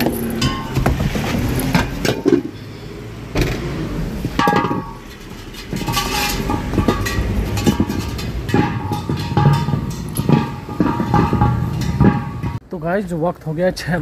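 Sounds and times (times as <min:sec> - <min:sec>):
metal gas cylinder clanking: 0:00.0 - 0:02.6, 0:03.4 - 0:12.6.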